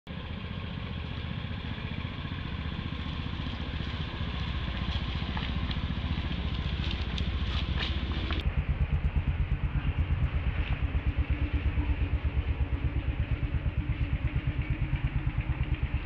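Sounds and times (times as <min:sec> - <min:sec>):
small engine running: 0:00.1 - 0:16.0.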